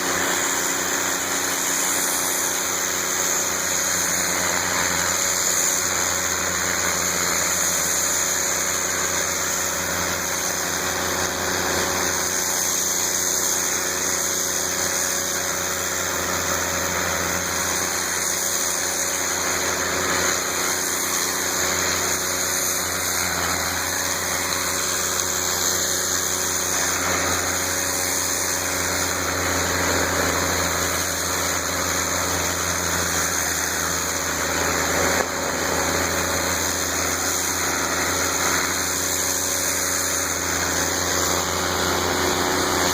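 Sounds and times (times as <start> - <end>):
pressure washer engine running: 0.0 - 42.9
water jet hissing: 0.0 - 42.9.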